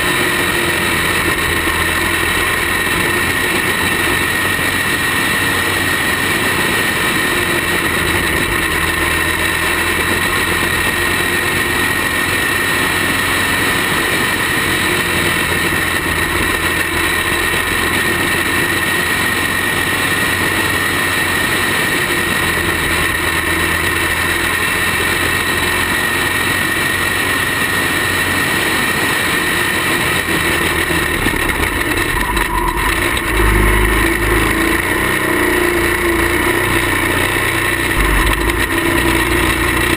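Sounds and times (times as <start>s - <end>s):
kart engine running: 0.0s - 39.9s
second kart engine rumble: 0.0s - 39.9s.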